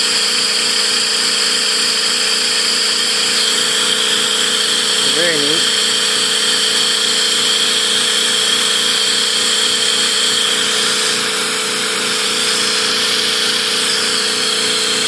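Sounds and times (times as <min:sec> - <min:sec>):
turbine whining: 0:00.0 - 0:15.0.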